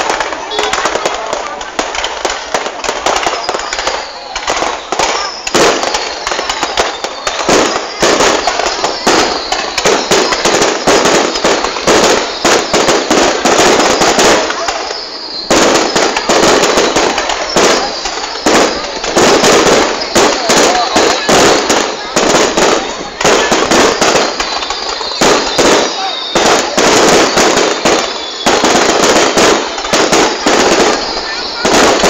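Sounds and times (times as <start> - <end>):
fireworks bangs and crackles: 0.0 - 32.0
fireworks falling whistles: 0.0 - 32.0.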